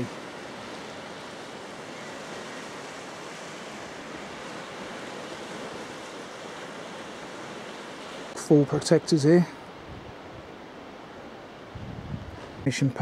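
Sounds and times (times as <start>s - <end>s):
sea surf on rocky shore: 0.0s - 13.0s.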